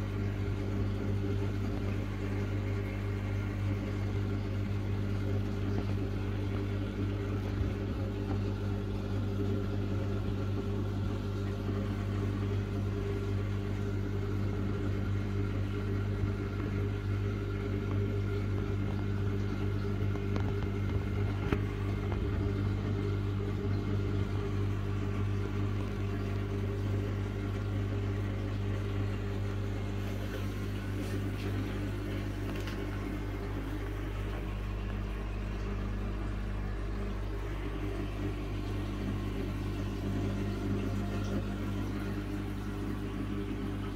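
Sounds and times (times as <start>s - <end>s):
circulating water: 0.0s - 43.9s
water pump humming: 0.0s - 43.9s.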